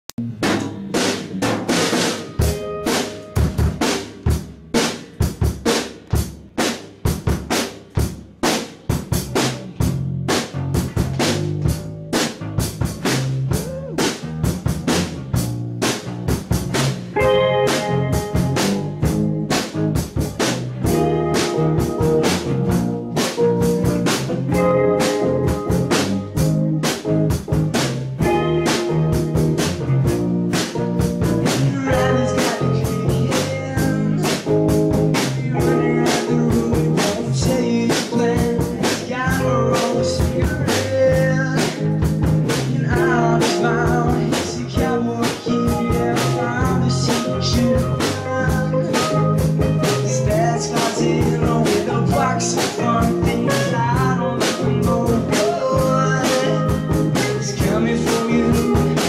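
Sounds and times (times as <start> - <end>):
drums and hand percussion: 0.2 - 59.0.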